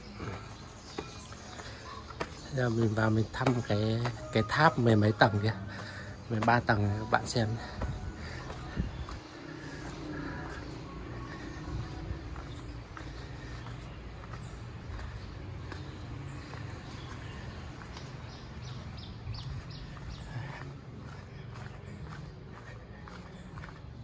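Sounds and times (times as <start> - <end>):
footsteps on stone: 0.0 - 24.0.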